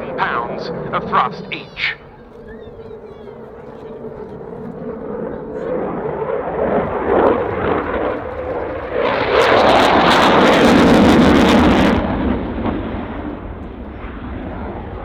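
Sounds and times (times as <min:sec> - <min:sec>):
jet flying past: 0:00.0 - 0:15.0.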